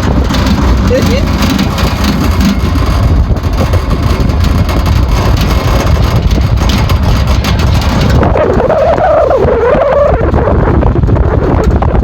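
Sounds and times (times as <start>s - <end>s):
low rumble of moving vehicle: 0.0s - 12.0s
wind buffeting microphone: 0.0s - 12.0s.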